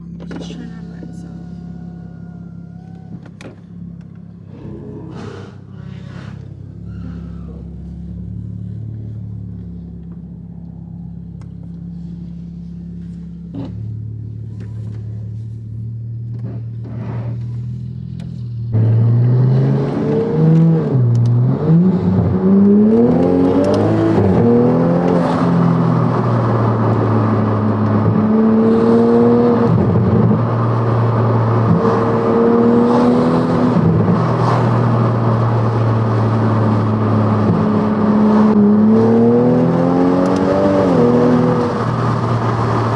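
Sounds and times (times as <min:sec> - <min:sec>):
car engine revving with gear changes: 0:00.0 - 0:42.9.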